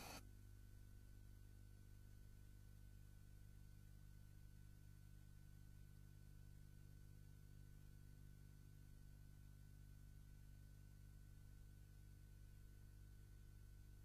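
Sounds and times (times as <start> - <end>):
faint low electrical hum: 0.0 - 14.0.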